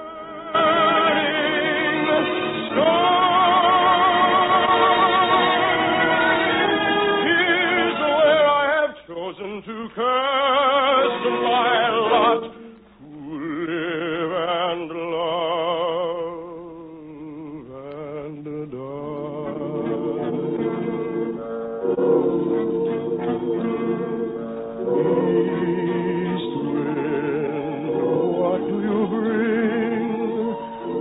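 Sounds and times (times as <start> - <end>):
operatic singing: 0.0 - 31.0.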